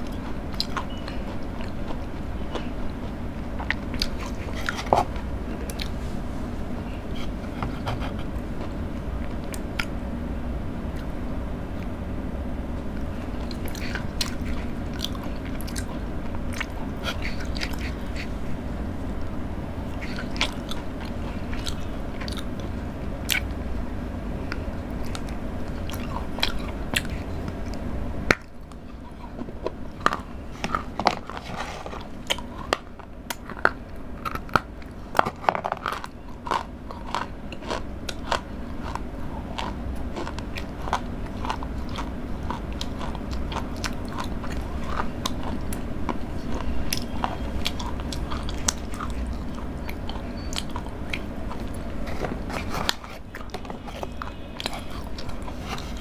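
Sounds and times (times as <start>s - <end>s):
sharp chewing clicks: 0.0s - 5.9s, 13.4s - 18.3s, 19.9s - 23.6s, 24.4s - 31.4s, 32.2s - 56.0s.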